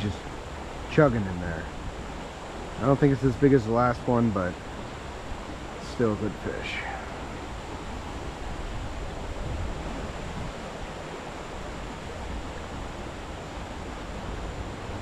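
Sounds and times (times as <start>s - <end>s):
fast-flowing stream rushing: 0.0s - 15.0s.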